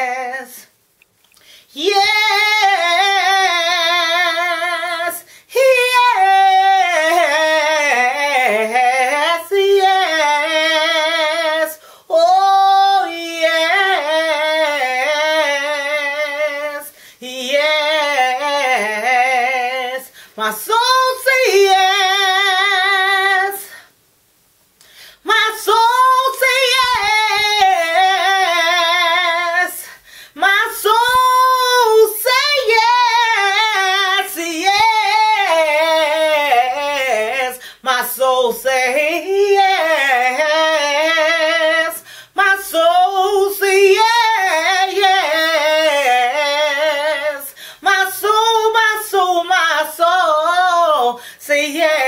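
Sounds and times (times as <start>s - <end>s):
woman singing unaccompanied: 0.0s - 0.8s, 1.7s - 23.9s, 25.2s - 52.0s.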